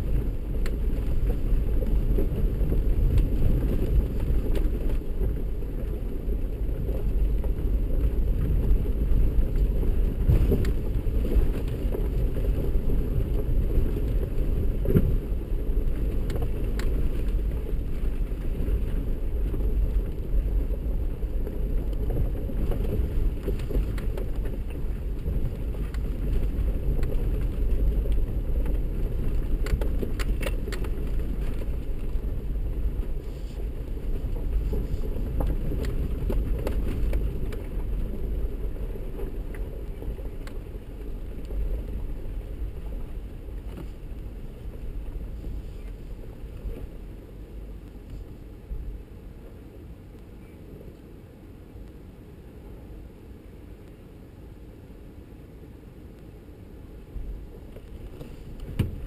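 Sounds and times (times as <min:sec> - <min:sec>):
engine and tyres rumbling: 0:00.0 - 0:59.0.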